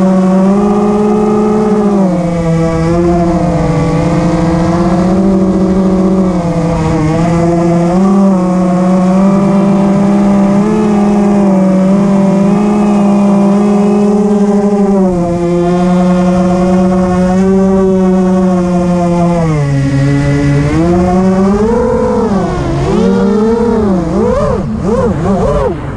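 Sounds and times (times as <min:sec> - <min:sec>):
quadcopter motors whining: 0:00.0 - 0:25.9.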